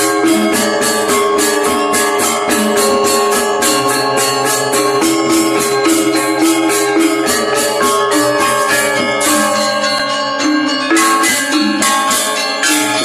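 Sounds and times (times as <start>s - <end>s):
gamelan ensemble playing: 0.0s - 13.0s
gong-chime row ringing: 0.0s - 13.0s.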